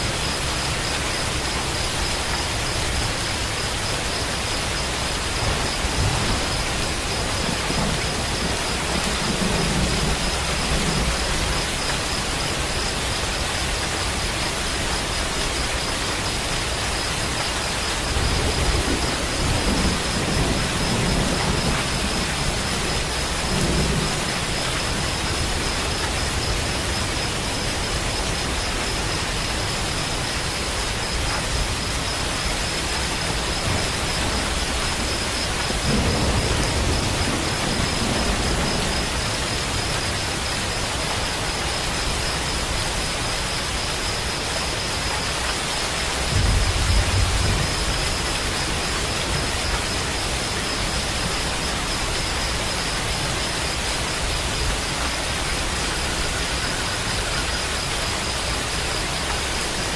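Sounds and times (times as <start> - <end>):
steady rain: 0.0 - 59.9
low rumbles of thunder: 0.1 - 41.2, 46.1 - 58.6.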